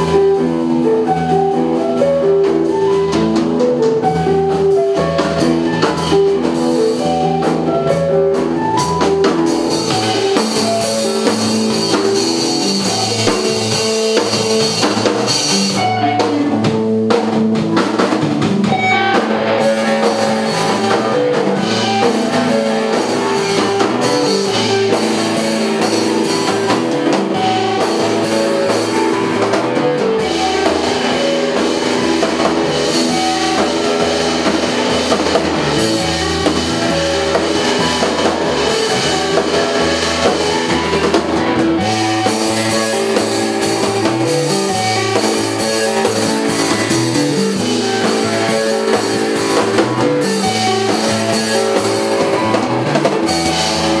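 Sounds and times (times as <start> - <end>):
deep bass: 0.0 - 54.0
drum kit: 0.0 - 54.0
electric guitar: 0.0 - 54.0.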